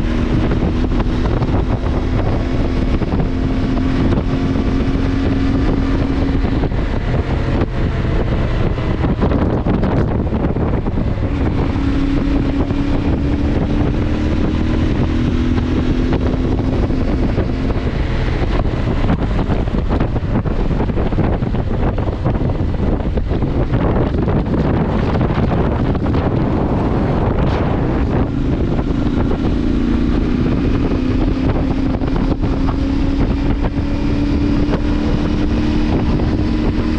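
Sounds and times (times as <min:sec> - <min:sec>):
motorcycle engine running: 0:00.0 - 0:36.9
wind buffeting microphone: 0:00.0 - 0:36.9.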